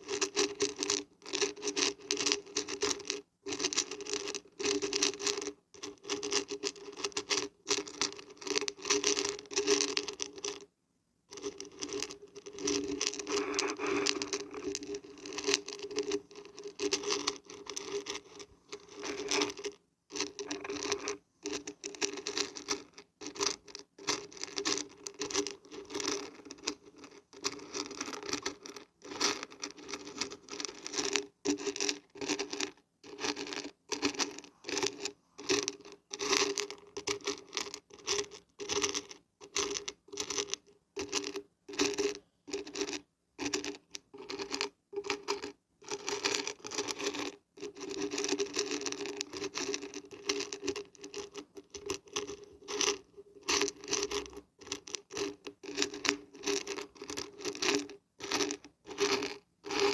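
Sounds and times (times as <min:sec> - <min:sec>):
dried beans rattling in shaker: 0:00.0 - 0:10.7, 0:11.3 - 0:59.9.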